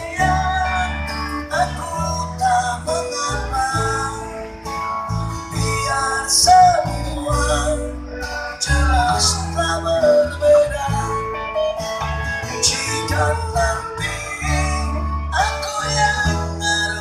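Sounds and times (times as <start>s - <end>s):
guitar: 0.0s - 17.0s
pulsing bass: 0.0s - 17.0s.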